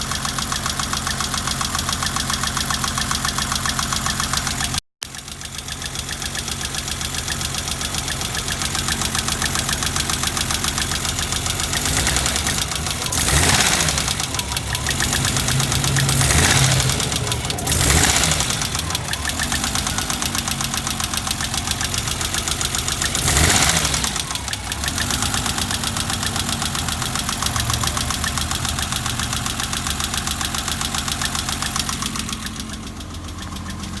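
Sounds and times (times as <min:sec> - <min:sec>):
car engine idling roughly: 0:00.0 - 0:34.0
valvetrain ticking: 0:00.0 - 0:34.0.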